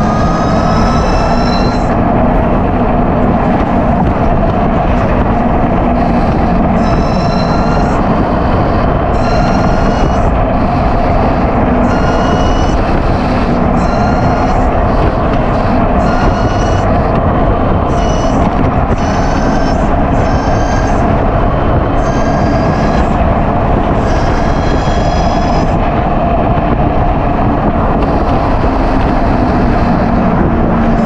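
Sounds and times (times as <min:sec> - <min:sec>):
electric motorcycle motor whine: 0:00.0 - 0:31.0
wind and road noise: 0:00.0 - 0:31.0.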